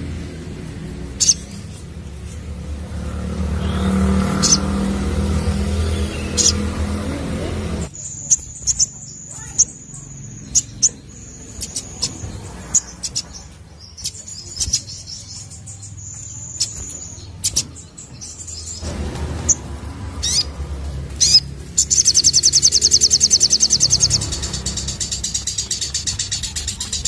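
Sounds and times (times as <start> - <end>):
sunbird singing: 1.0 - 27.0.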